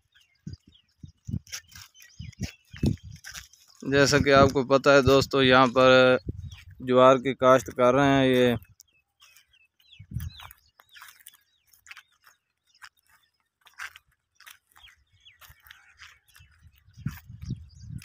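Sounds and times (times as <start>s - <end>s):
footsteps crunching on dry field: 0.0s - 18.0s
small birds chirping: 0.0s - 18.0s.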